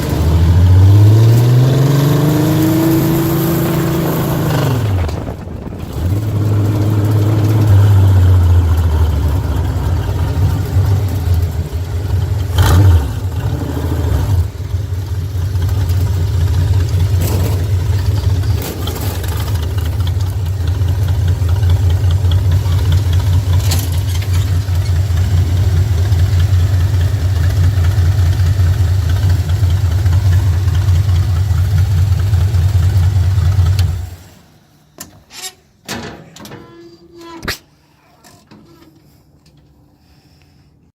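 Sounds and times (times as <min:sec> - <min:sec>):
engine idling: 0:00.0 - 0:34.8.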